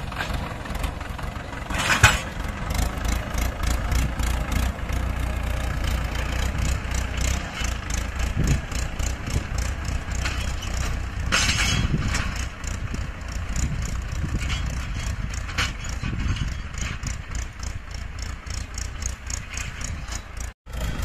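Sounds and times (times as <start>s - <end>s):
cultivator ticking clatter: 0.0s - 21.0s
tractor diesel engine under load: 0.0s - 21.0s.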